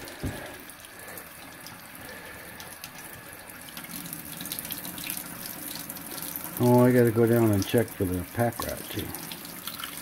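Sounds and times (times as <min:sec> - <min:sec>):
tap water running: 0:00.0 - 0:10.0.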